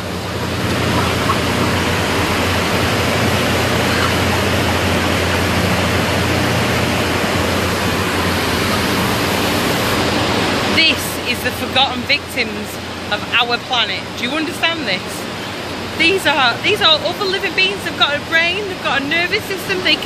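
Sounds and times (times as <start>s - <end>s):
ventilation rushing with low hum: 0.0s - 20.0s.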